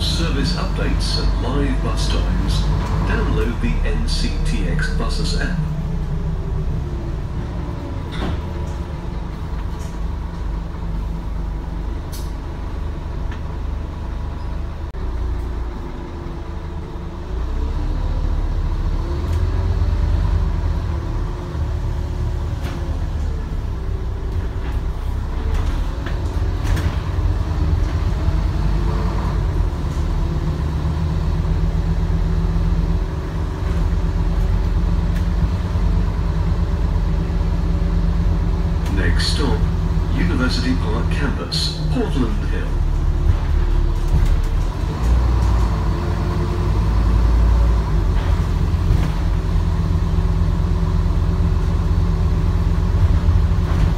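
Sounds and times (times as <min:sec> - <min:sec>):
bus diesel engine rumble: 0:00.0 - 0:53.9
rattles and clicks from bus body: 0:02.0 - 0:04.2, 0:07.4 - 0:16.8, 0:19.1 - 0:39.9, 0:42.8 - 0:53.9.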